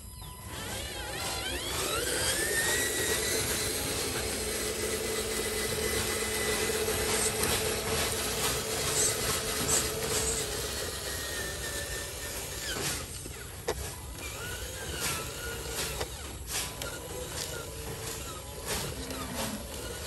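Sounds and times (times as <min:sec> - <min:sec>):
electric motor and gearbox whining: 0:00.0 - 0:20.0.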